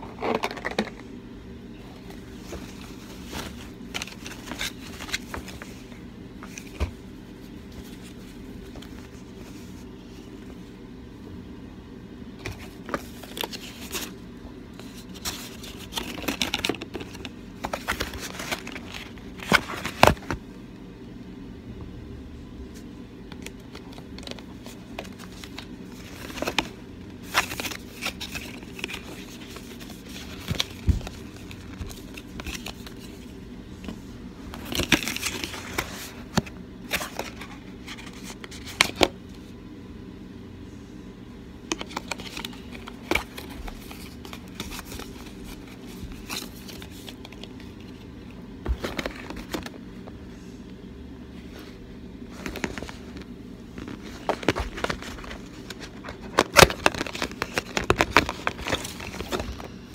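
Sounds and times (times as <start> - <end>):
paper and cardboard crinkling: 1.8 - 10.6, 12.4 - 20.4, 23.4 - 39.1, 41.7 - 49.8, 52.3 - 59.8.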